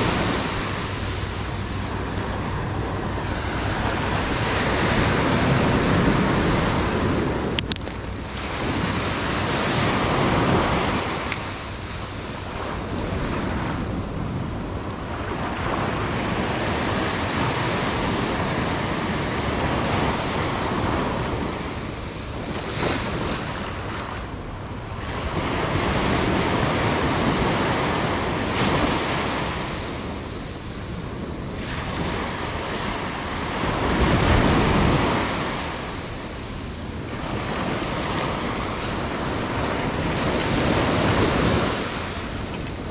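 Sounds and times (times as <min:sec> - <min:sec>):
surf washing up beach: 0:00.0 - 0:42.9
wind rumbling on microphone: 0:00.0 - 0:42.9.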